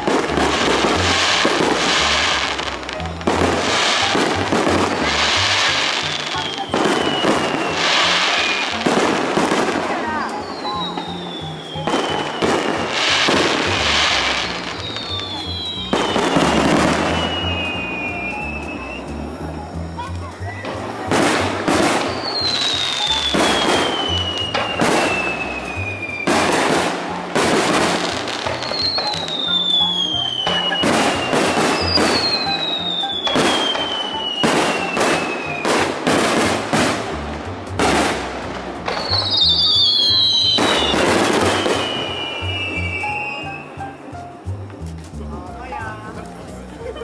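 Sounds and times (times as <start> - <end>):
falling firework whistles: 0.0 - 44.9
fireworks booming: 0.0 - 46.7.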